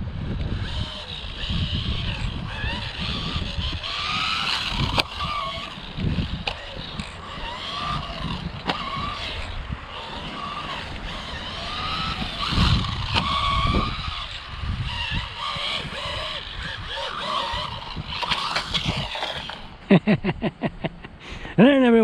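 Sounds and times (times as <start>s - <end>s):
rc car motor whine: 0.0s - 20.0s
tyres rumbling on ground: 0.0s - 20.0s
sharp clicks: 0.4s - 19.7s.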